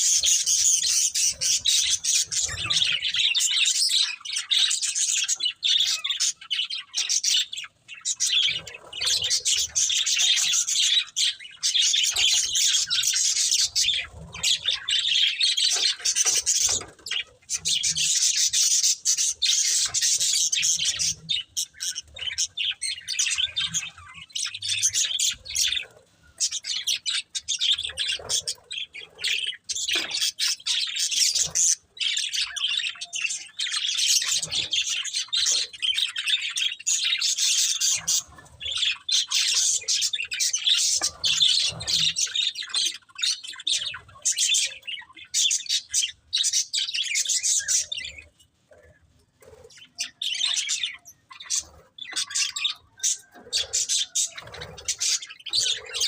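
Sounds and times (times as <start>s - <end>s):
budgerigars chirping: 0.0s - 48.3s, 49.4s - 56.0s.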